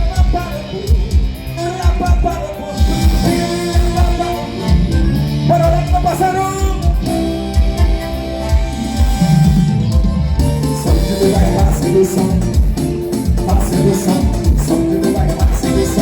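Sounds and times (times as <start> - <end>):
loud carnival music: 0.0 - 16.0.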